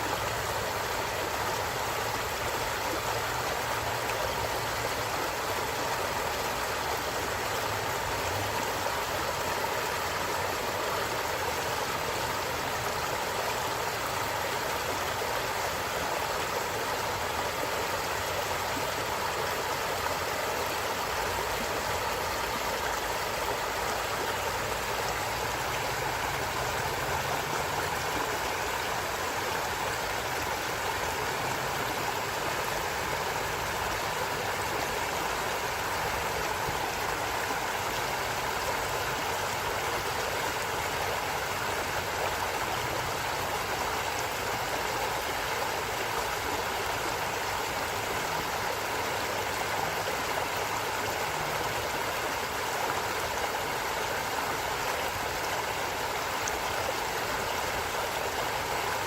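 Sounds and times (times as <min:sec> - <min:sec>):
stream water gurgling: 0:00.0 - 0:59.0.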